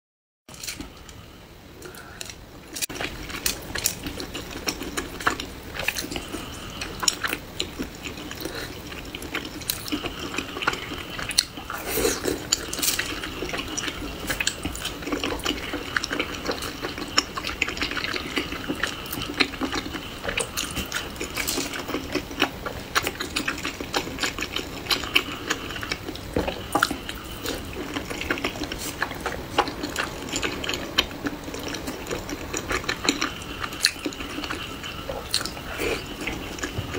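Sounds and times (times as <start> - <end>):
wet chewing and slurping: 1.8 - 36.9.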